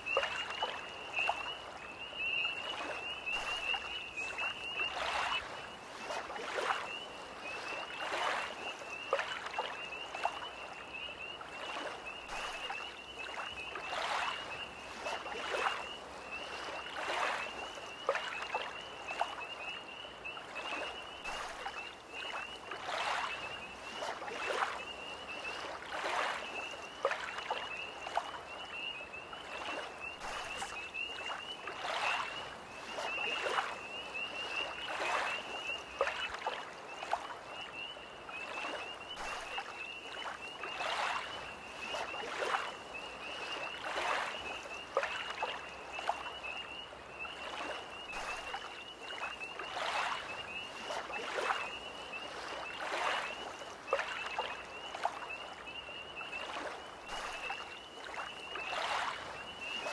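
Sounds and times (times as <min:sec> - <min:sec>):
tree frogs trilling: 0:00.0 - 0:59.9
waves lapping and splashing: 0:00.0 - 0:59.9.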